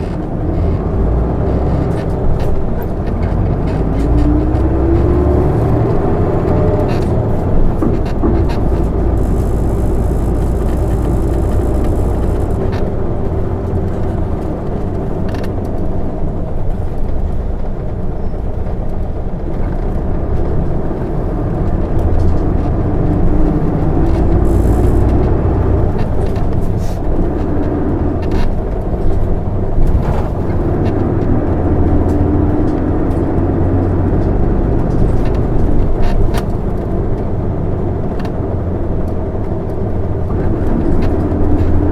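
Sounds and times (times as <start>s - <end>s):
bus diesel engine running: 0.0s - 41.9s
road rumble: 0.0s - 41.9s.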